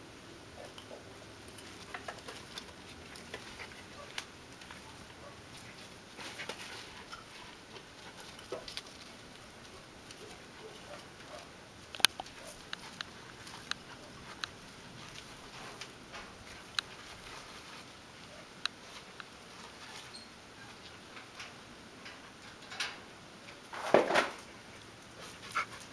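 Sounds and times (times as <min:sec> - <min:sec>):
puppy paws scratching in dirt: 0:00.6 - 0:21.2, 0:23.7 - 0:25.9.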